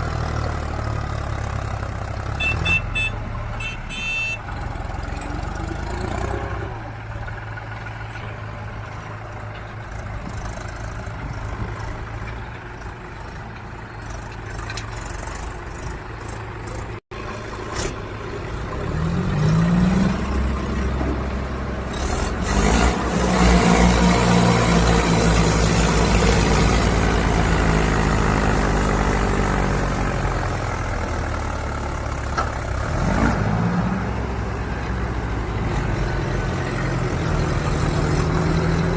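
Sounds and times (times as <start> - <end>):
diesel tractor engines revving: 0.0 - 38.9.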